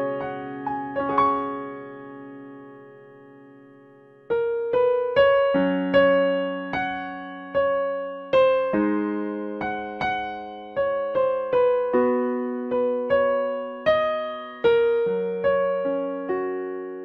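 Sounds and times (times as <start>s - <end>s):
gentle piano piece: 0.0s - 17.0s.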